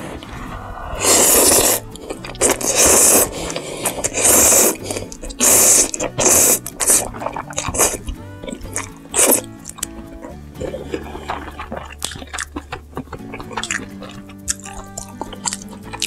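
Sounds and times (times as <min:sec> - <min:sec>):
noodles being slurped: 0:00.0 - 0:16.0.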